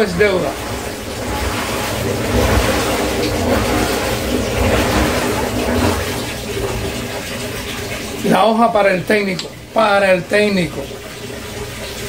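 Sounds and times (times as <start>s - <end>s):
washer low rumble: 0.0s - 12.0s
water rushing into washer tub: 0.0s - 12.0s.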